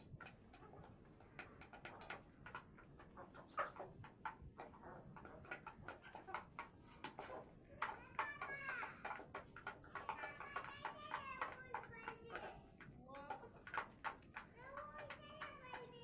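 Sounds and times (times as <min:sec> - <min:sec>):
hens pecking clicks: 0:00.0 - 0:16.0.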